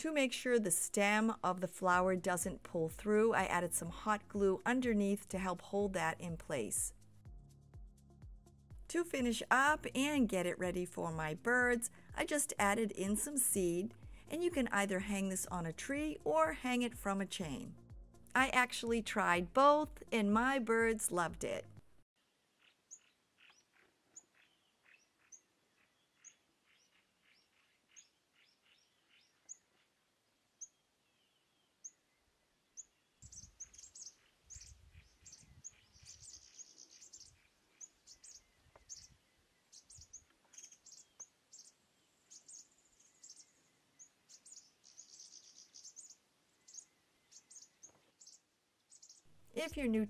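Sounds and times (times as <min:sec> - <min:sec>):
songbirds chirping: 0:00.0 - 0:50.0.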